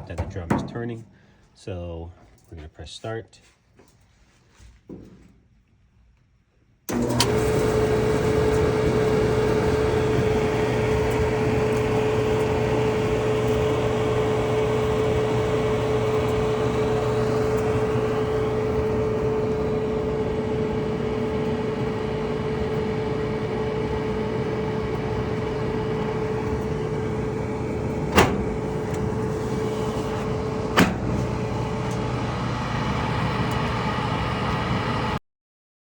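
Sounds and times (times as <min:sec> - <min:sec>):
dryer motor and drum rumble: 0:00.0 - 0:01.4, 0:06.9 - 0:35.2.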